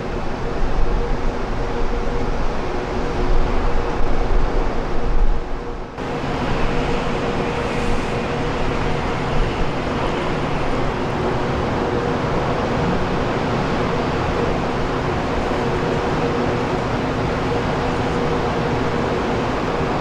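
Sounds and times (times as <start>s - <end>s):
jet airliner engines running: 0.0s - 20.0s.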